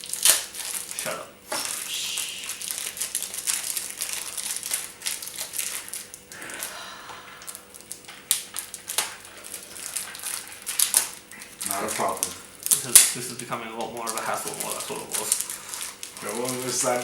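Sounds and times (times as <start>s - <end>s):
plastic packaging crinkling: 0.0s - 6.7s, 7.3s - 17.0s.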